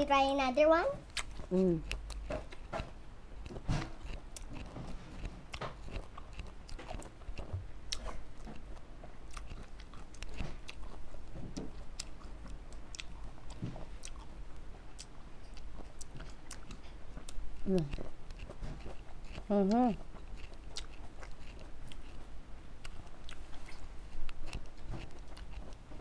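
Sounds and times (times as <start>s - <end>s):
grapes being chewed crunchily: 0.1s - 26.0s.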